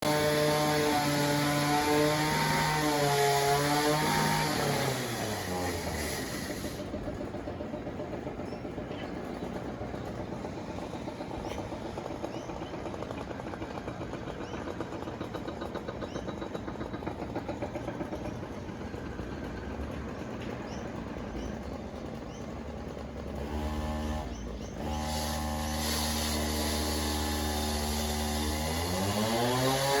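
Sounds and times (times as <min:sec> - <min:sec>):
construction machinery engine revving: 0:00.0 - 0:30.0.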